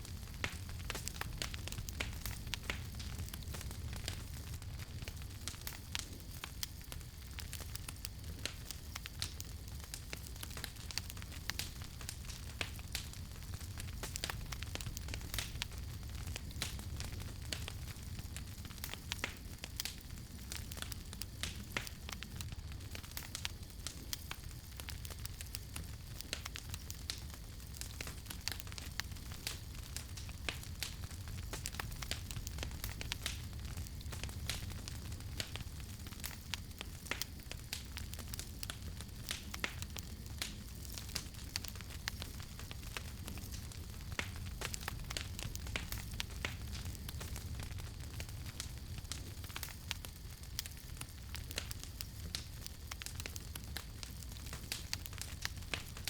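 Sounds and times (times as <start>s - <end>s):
campfire crackling: 0.0s - 56.0s
low rumble of flames: 0.0s - 56.0s.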